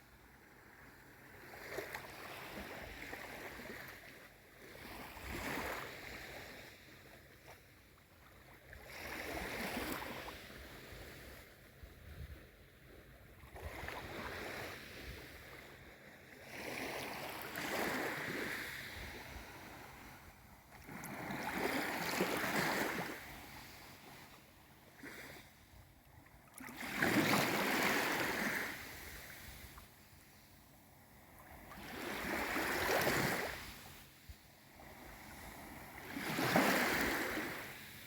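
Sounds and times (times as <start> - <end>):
small waves washing in: 0.2 - 25.8, 26.4 - 38.0.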